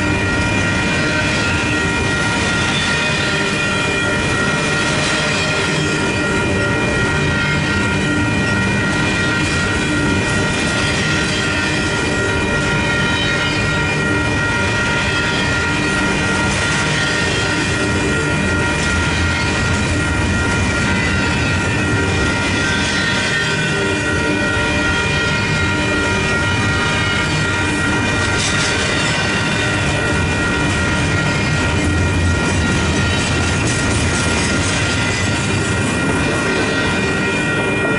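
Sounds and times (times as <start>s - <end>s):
freight train wheels rumbling: 0.0s - 37.9s
high-pitched ringing: 0.0s - 37.9s.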